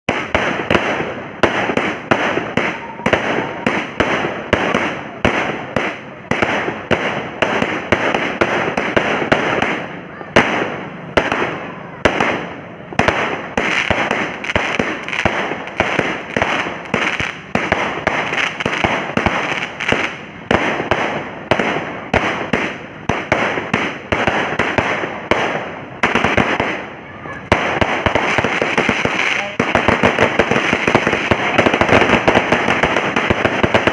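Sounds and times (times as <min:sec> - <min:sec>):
firework crackling: 0:00.0 - 0:33.9
firework cake shots: 0:00.1 - 0:33.9.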